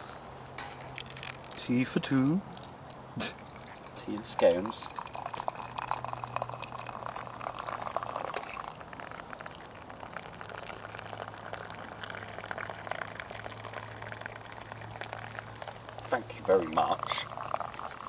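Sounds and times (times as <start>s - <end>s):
water bubbling at the boil: 0.8s - 18.0s.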